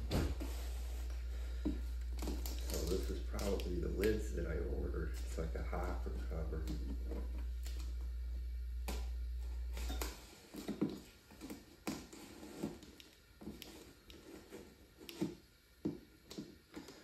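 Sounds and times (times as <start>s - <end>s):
cardboard and plastic rustling: 0.0s - 8.0s, 9.5s - 15.4s
steady low hum: 0.0s - 17.0s.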